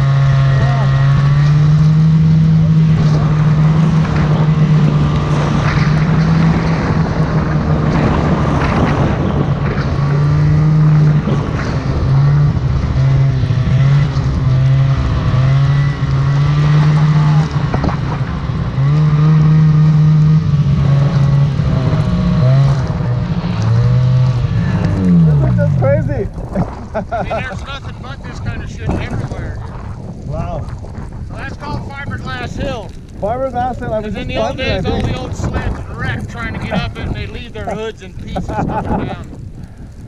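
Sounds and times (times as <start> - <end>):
snowmobile engine revving: 0.0 - 39.6.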